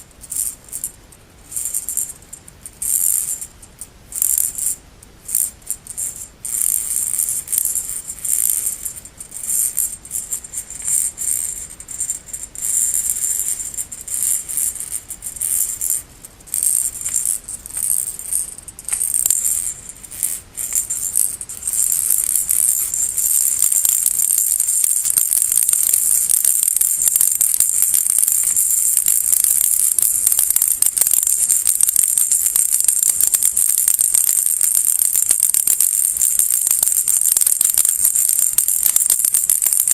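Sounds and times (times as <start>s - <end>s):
baby rattle shaking: 0.0s - 0.9s, 1.5s - 39.9s.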